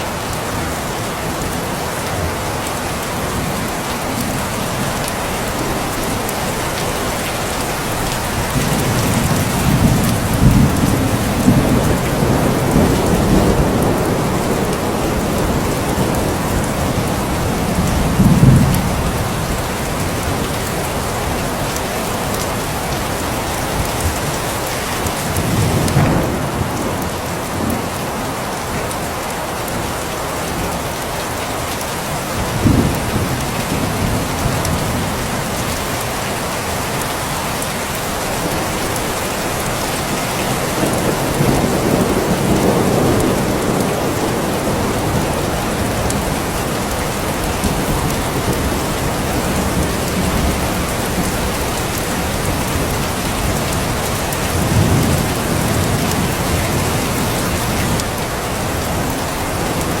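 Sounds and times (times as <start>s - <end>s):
steady rain falling: 0.0s - 60.0s
thunder rumbling: 1.3s - 29.1s, 37.4s - 60.0s.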